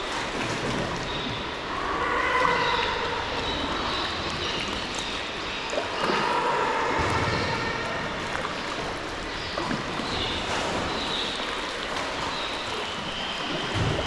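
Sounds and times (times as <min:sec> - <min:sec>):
water splashing around kayak: 0:00.0 - 0:14.0.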